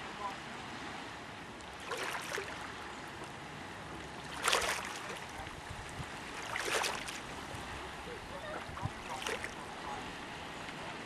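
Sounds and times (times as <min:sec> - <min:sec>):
water lapping against a dock: 0:00.0 - 0:11.0
water splashes: 0:00.0 - 0:11.0.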